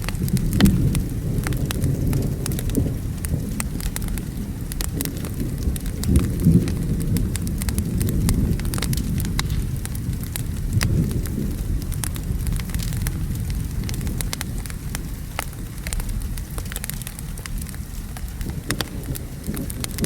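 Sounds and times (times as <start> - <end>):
distant thunder: 0.0 - 20.0
rain rumbling: 0.0 - 20.0
wood fire crackling and popping: 0.0 - 20.0.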